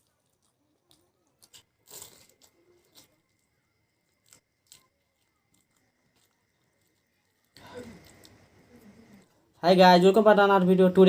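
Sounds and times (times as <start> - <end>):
faint crisp crunches and clicks: 0.0 - 9.6.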